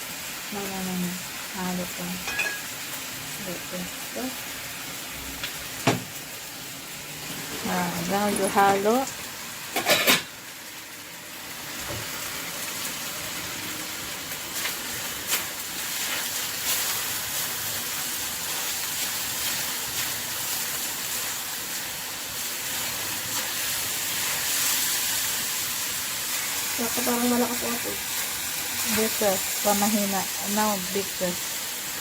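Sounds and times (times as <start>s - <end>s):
chicken sizzling in a pan: 0.0s - 32.0s.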